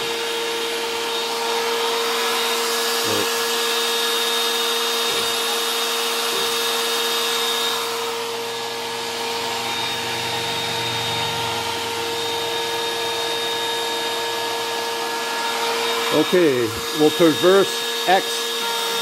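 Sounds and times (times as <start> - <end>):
router motor whining: 0.0 - 19.0.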